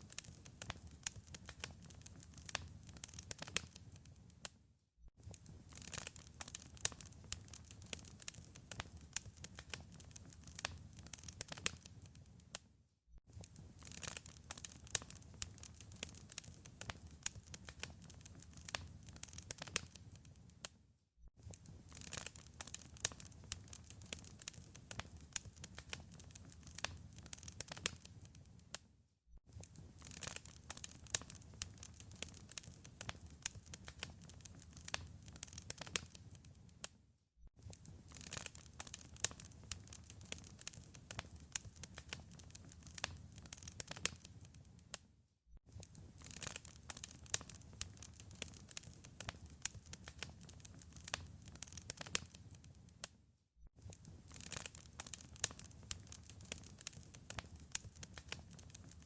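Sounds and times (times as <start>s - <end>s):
wood fire crackling and popping: 0.0s - 4.5s, 5.2s - 12.6s, 13.3s - 20.7s, 21.4s - 28.8s, 29.5s - 36.9s, 37.6s - 45.0s, 45.7s - 53.1s, 53.8s - 59.0s.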